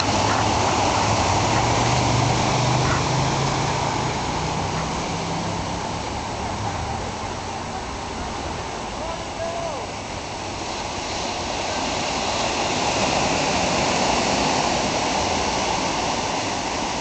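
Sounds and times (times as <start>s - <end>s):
vehicle engine hum: 0.0s - 15.9s
ocean surf on rocky beach: 0.0s - 17.0s.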